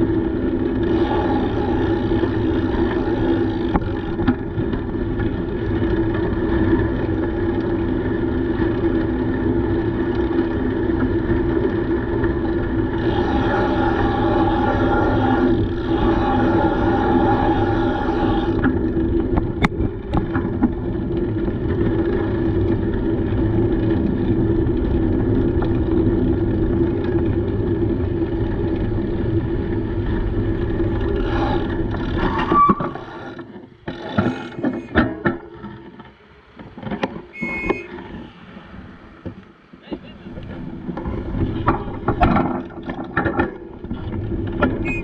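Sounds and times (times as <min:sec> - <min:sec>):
bicycle rolling on pavement: 0:00.0 - 0:45.0.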